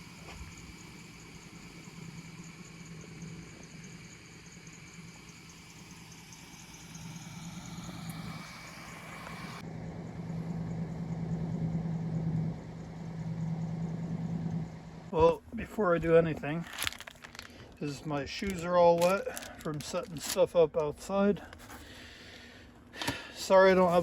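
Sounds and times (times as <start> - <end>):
van engine idling: 0.0 - 24.0.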